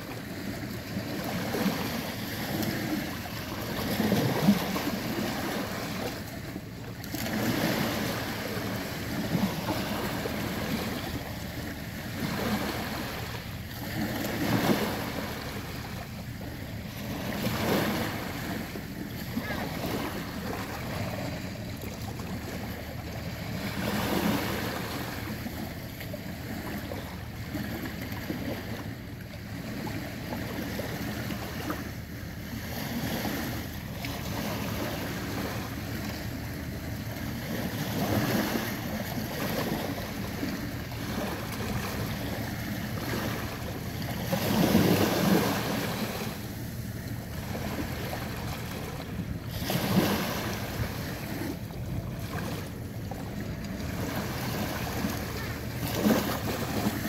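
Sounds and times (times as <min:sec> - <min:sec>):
small waves lapping: 0:00.0 - 0:57.0.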